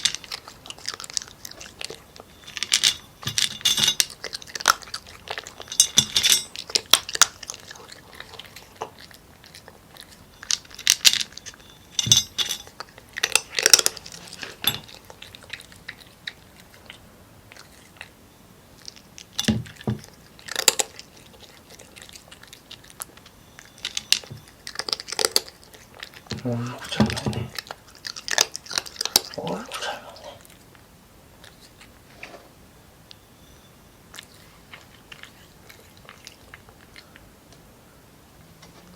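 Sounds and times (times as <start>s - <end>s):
cat crunching dry kibble: 0.0s - 18.2s, 18.8s - 32.1s.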